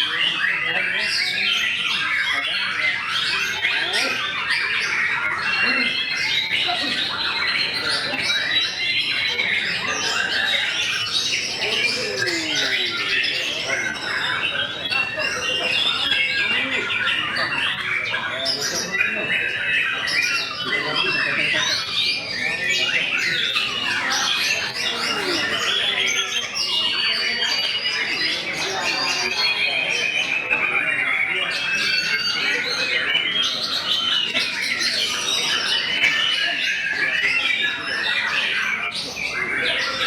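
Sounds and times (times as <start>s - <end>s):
bird singing: 0.0s - 40.0s.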